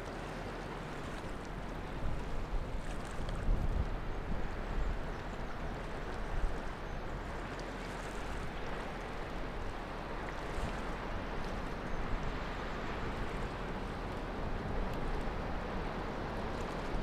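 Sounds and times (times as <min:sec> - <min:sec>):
ship engine low rumble: 0:00.0 - 0:17.0.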